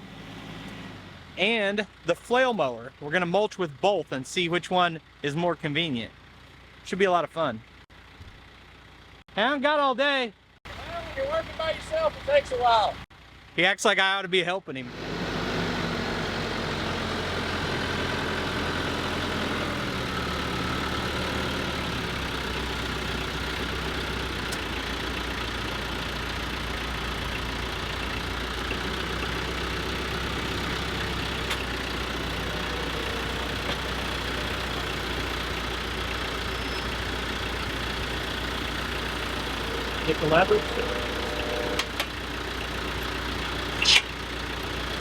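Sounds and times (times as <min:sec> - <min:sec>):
tractor engine idling: 0:01.4 - 0:09.4, 0:10.4 - 0:14.0, 0:16.3 - 0:45.0.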